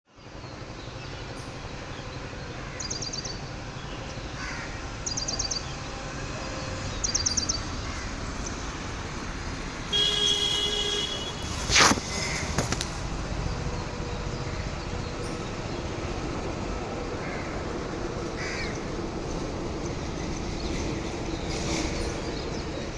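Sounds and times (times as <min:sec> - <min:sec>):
steady background noise: 0:00.2 - 0:22.9.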